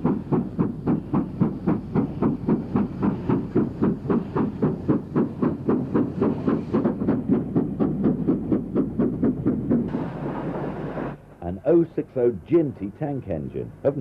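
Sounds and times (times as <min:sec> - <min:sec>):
steam locomotive exhaust beats: 0:00.0 - 0:14.0.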